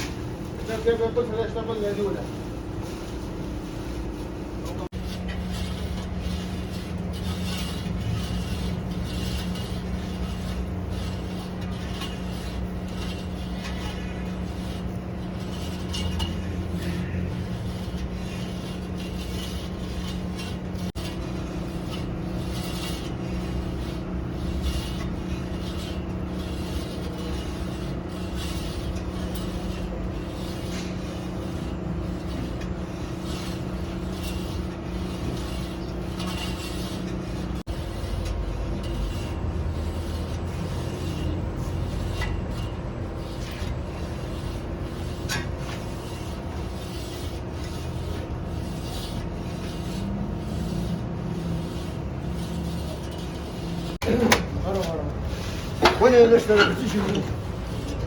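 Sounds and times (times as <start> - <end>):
machine hum: 0.0 - 58.0
scraping strokes: 0.0 - 58.0.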